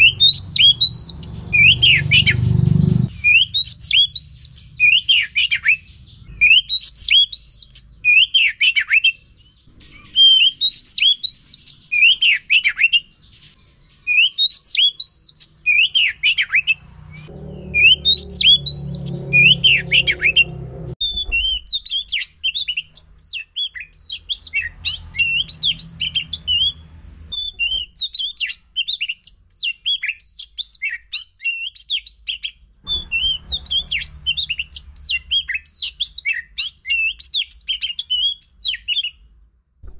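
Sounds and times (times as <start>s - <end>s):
bird singing whistled phrases: 0.0s - 2.5s, 3.1s - 13.1s, 14.0s - 20.4s, 21.0s - 39.2s.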